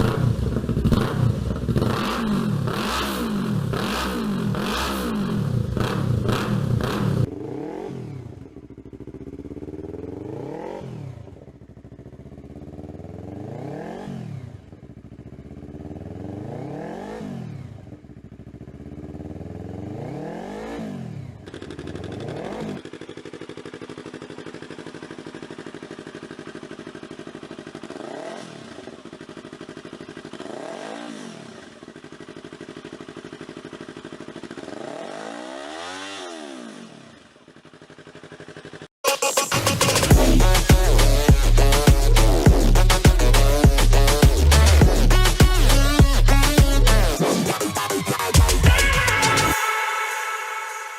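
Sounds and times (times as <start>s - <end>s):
motorcycle engine idling: 0.0s - 35.7s, 37.0s - 39.0s, 39.6s - 47.2s
motorcycle engine revving: 0.0s - 49.6s.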